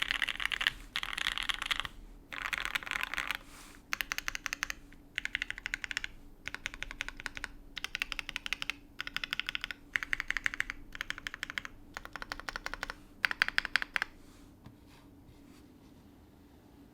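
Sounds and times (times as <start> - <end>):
mechanical keyboard typing: 0.0 - 14.2.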